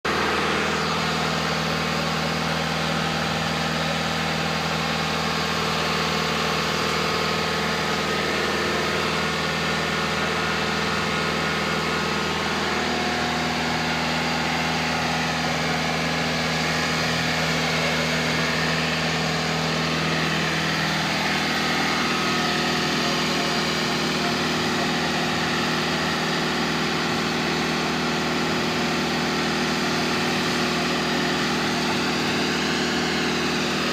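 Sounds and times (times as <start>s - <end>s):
engine humming steadily: 0.0s - 33.9s.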